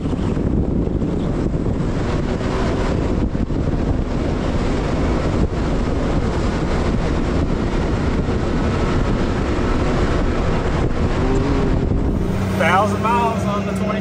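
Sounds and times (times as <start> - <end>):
loud engine drone: 0.0 - 14.0
ride and wind noise: 0.0 - 14.0.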